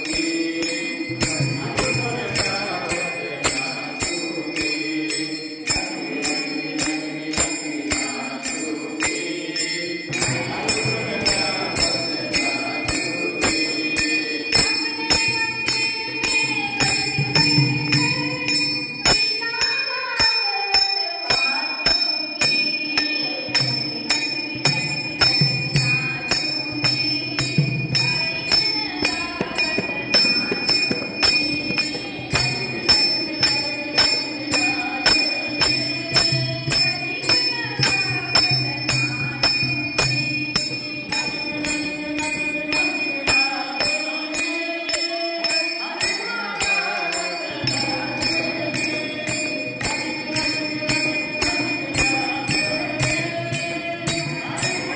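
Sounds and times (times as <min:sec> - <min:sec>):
hand cymbals striking: 0:00.0 - 0:54.9
person singing: 0:00.0 - 0:54.9.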